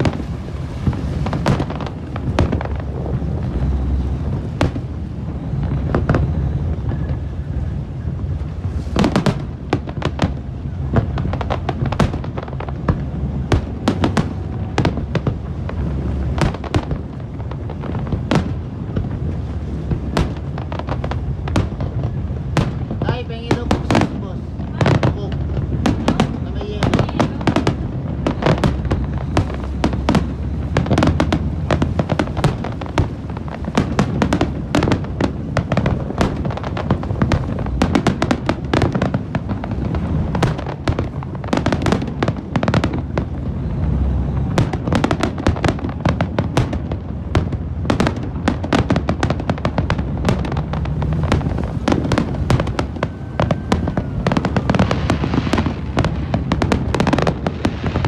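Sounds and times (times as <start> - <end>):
fireworks bangs and crackling: 0.0 - 58.0
steady low rumble: 0.0 - 58.0.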